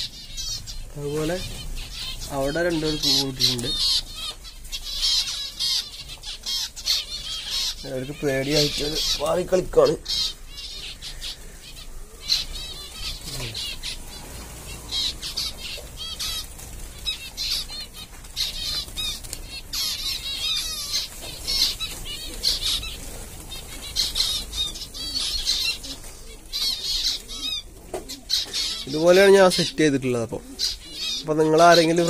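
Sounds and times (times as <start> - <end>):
wings fluttering: 0.0 - 29.8
finches chirping: 0.0 - 32.0.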